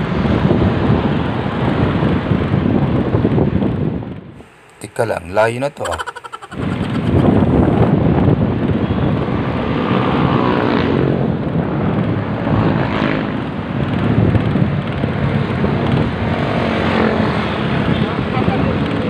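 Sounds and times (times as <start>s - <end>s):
wind buffeting microphone: 0.0s - 4.5s, 6.4s - 19.0s
street traffic: 0.0s - 19.0s.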